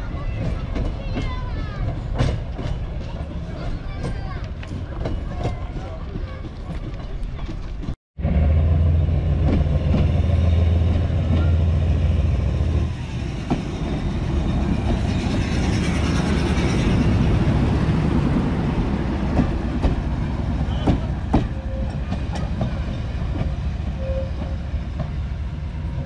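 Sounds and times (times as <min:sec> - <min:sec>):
diesel locomotive engine hum: 0:00.0 - 0:26.0.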